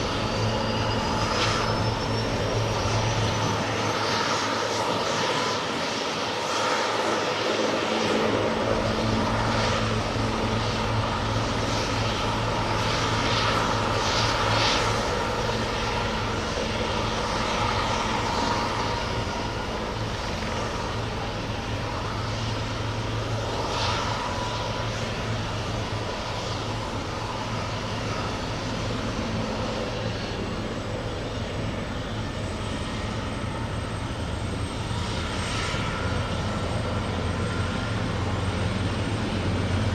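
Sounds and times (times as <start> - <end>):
helicopter engine whine: 0.0 - 39.9.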